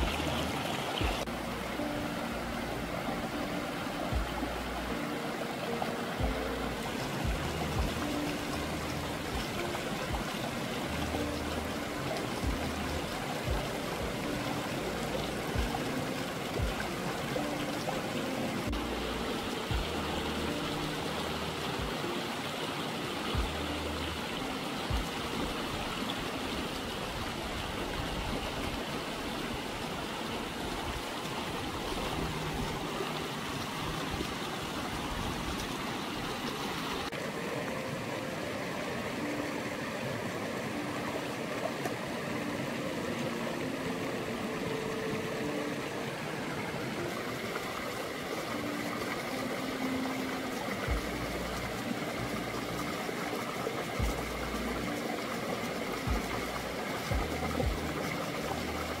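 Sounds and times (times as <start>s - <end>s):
stream rushing over cascades: 0.0s - 59.0s.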